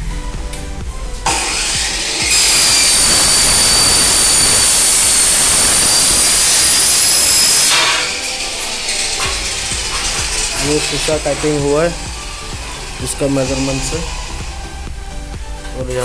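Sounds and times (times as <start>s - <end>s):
machine hiss and whine: 1.2s - 15.3s.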